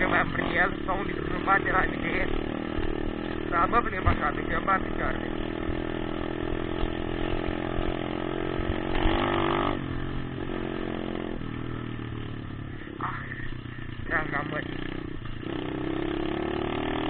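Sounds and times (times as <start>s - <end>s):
motocross bike engine: 0.0s - 17.0s.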